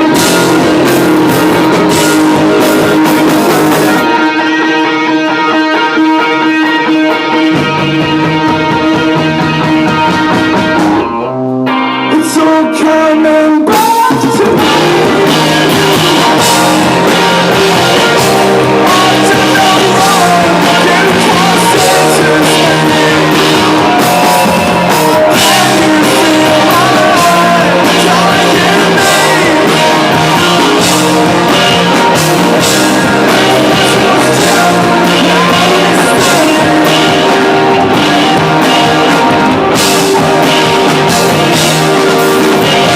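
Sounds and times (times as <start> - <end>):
electric guitar playing: 0.0 - 42.9
rock band playing: 0.0 - 42.9.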